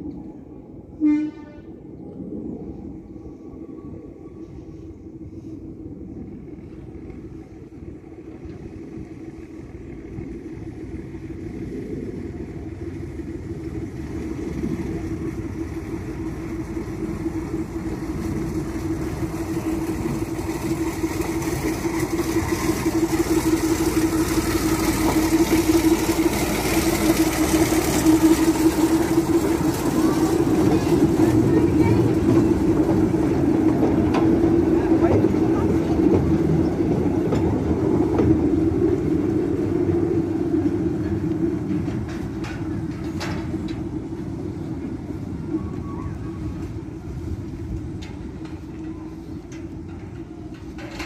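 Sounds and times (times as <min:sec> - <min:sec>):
diesel locomotive running: 0:00.0 - 0:51.0.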